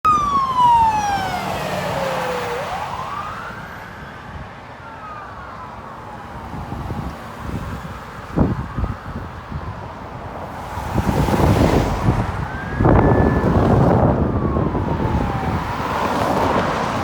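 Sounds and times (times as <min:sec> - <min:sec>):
emergency vehicle siren wailing: 0:00.0 - 0:17.0
low traffic rumble: 0:00.1 - 0:17.0.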